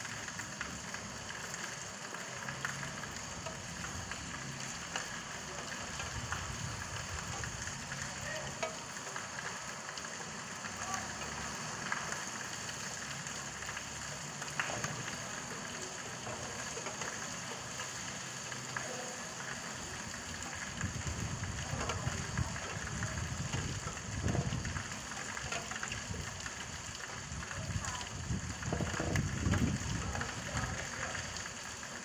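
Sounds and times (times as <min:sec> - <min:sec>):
individual raindrops: 0:00.0 - 0:32.0
steady rain falling: 0:00.0 - 0:32.0.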